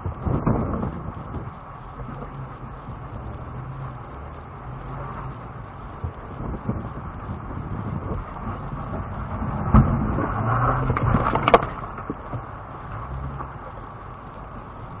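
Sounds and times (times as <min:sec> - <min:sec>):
engine hum inside vehicle: 0:00.0 - 0:15.0.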